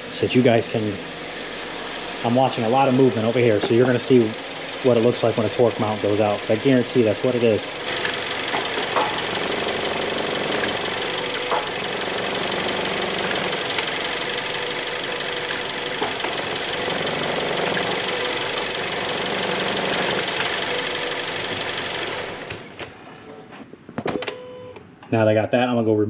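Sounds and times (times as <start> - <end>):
car engine running: 0.8 - 22.8.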